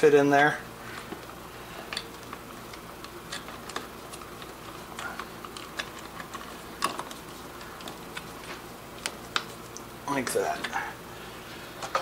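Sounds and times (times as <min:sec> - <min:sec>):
electrical wires clicking and scraping: 0:01.0 - 0:10.9.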